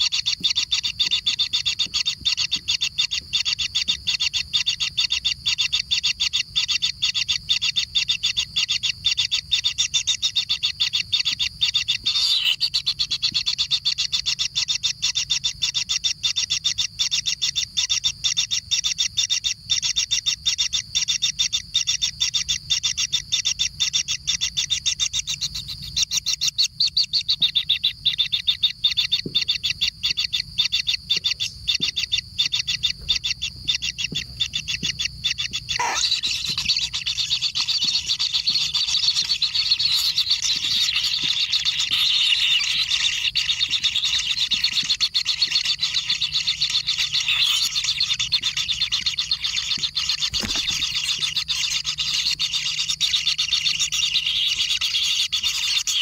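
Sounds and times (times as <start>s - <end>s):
nestlings begging calls: 0.0s - 16.0s, 21.2s - 56.0s.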